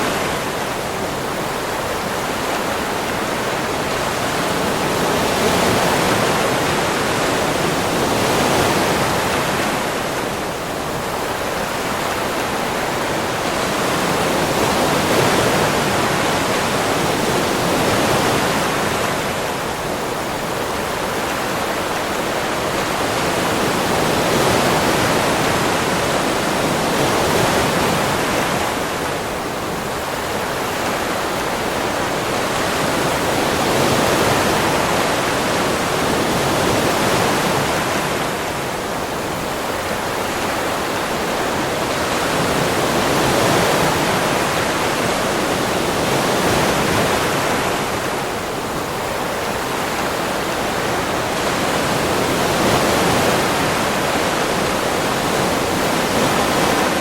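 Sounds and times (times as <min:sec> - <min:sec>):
sea waves washing on beach: 0:00.0 - 0:57.0.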